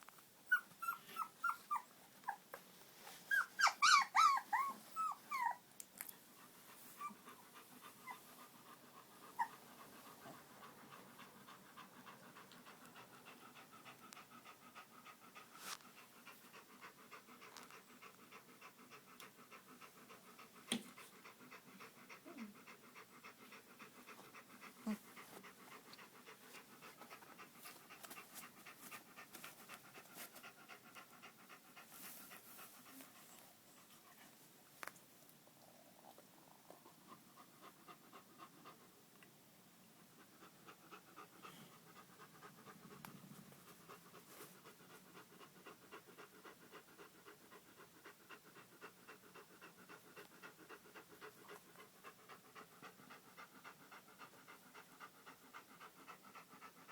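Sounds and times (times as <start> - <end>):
puppy panting: 0.5 - 2.5, 3.3 - 5.6, 6.4 - 34.4, 36.8 - 39.0, 39.9 - 56.9.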